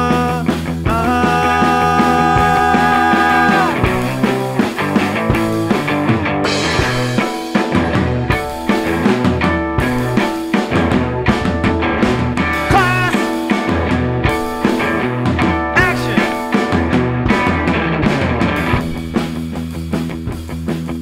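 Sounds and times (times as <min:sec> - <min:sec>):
instrumental rock band: 0:00.0 - 0:21.0.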